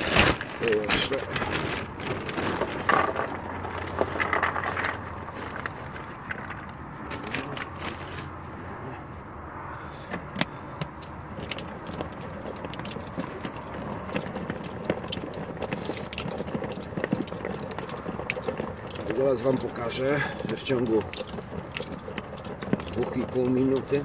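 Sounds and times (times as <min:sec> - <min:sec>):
bait balls rattling into plastic hopper: 0:00.0 - 0:06.7, 0:10.9 - 0:24.0.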